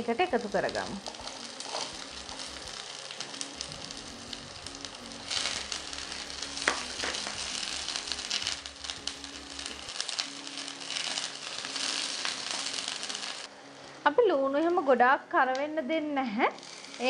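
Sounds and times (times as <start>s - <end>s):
onion and garlic sizzling in pan: 0.0s - 15.0s, 16.0s - 17.0s.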